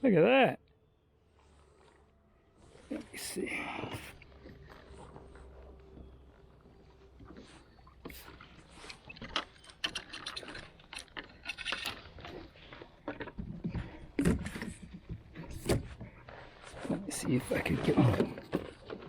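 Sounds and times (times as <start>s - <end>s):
knocks and scrapes against kayak: 3.6s - 19.0s.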